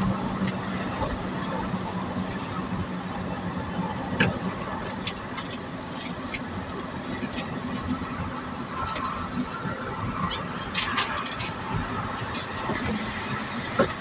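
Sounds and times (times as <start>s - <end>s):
vehicle driving rumble: 0.0s - 14.0s.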